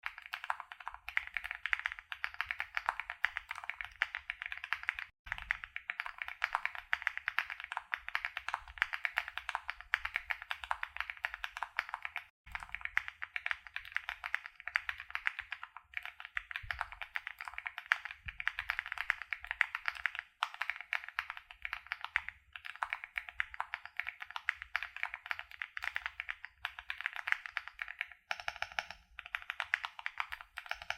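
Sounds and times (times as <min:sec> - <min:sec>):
fast mechanical keyboard typing: 0:00.0 - 0:30.9.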